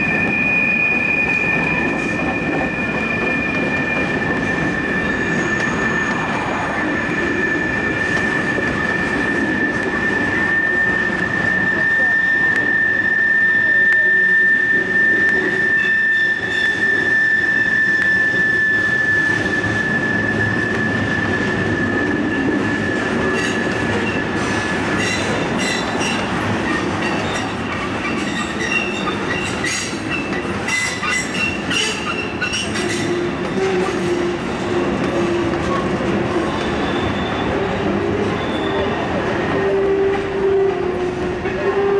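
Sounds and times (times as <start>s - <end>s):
train cars rumbling past: 0.0s - 41.9s
train wheel squeal: 0.0s - 41.9s.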